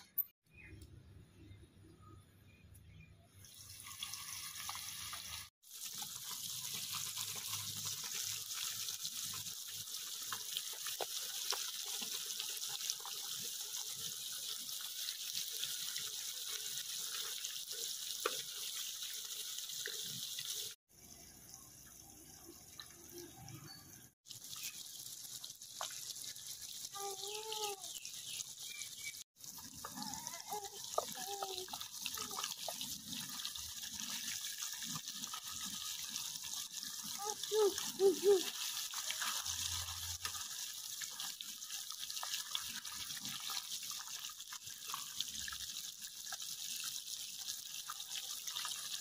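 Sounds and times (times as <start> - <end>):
water running from a tap: 3.4 - 49.0.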